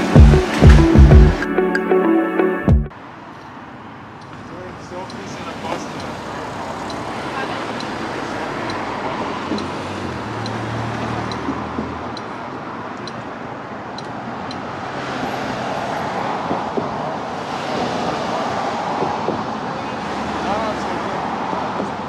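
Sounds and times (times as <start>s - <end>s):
car approaching: 0.0s - 22.0s
road traffic noise: 0.0s - 22.0s.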